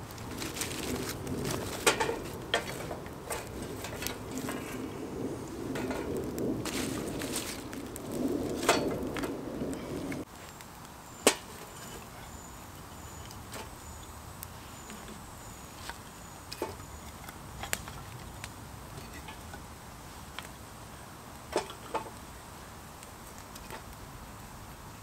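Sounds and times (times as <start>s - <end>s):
dry twigs rustling and cracking: 0.0s - 25.0s
wood fire crackling and popping: 0.0s - 25.0s.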